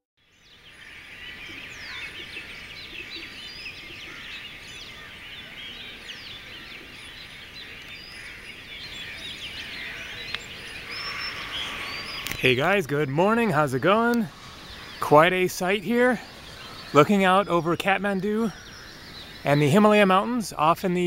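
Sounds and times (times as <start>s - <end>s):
birds chirping and whistling: 0.2s - 21.0s.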